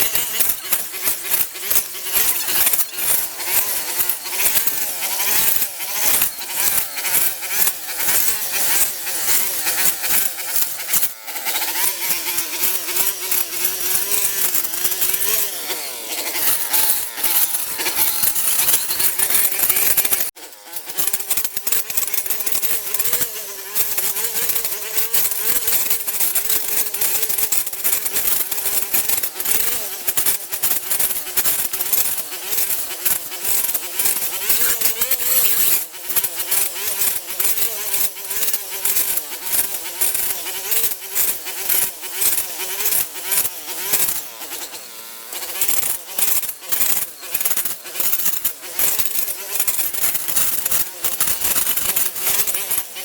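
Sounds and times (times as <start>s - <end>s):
small motor buzzing: 0.0s - 53.0s.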